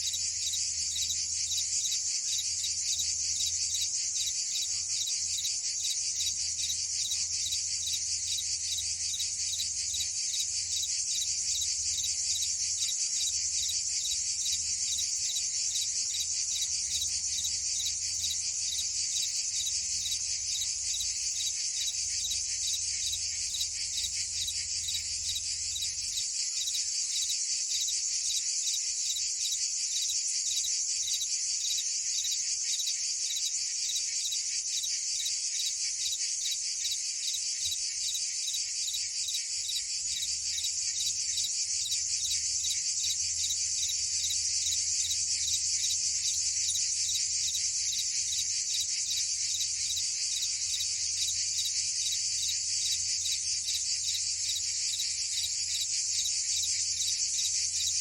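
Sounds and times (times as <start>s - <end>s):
cicadas and crickets chirping: 0.0s - 58.0s.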